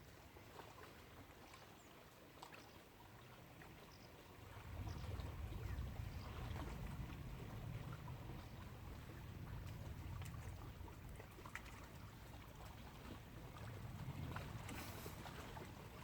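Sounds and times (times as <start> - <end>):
low rumble of wind: 0.0 - 16.0
soft water sounds: 0.0 - 16.0.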